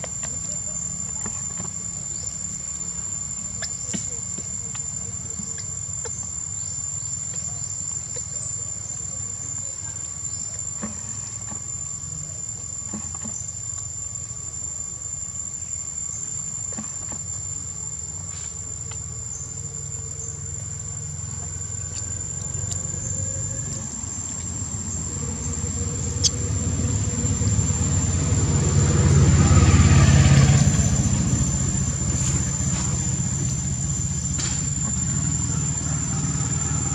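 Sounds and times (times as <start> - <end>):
crickets droning: 0.0 - 36.9.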